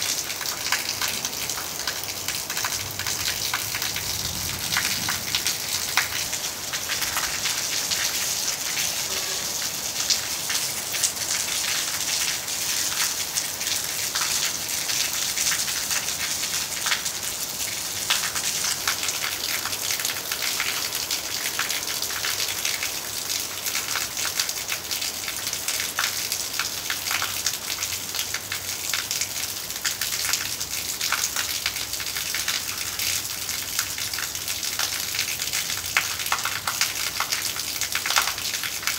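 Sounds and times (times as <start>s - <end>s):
heavy rain falling: 0.0s - 38.9s
water pouring from roof spout: 0.0s - 38.9s.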